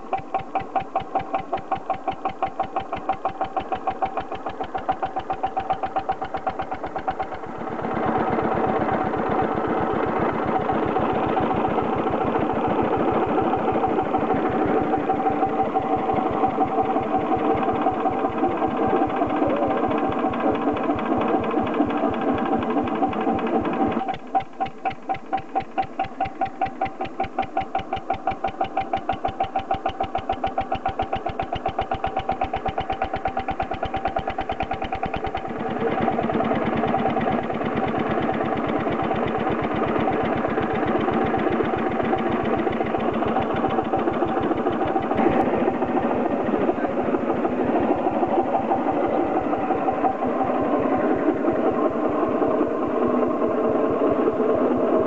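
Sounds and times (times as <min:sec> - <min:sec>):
stationary engine exhaust beats: 0:00.0 - 0:55.0.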